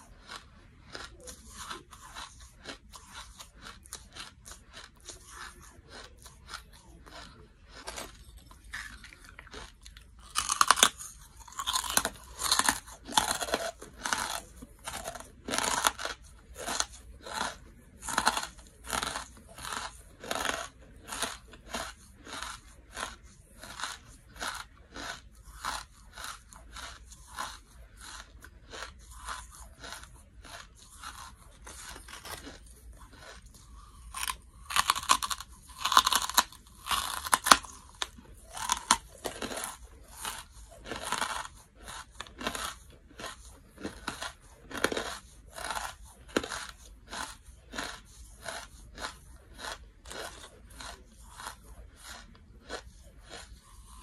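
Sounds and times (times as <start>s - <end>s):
charcoal crunching while chewed: 0.0s - 54.0s.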